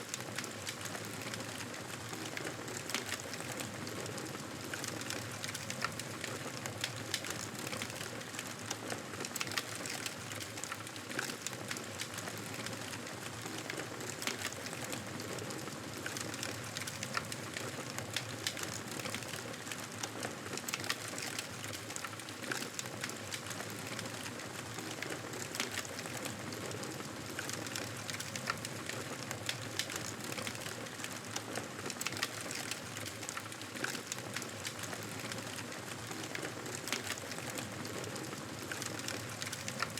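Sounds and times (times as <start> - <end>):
campfire crackling and popping: 4.6 - 39.9.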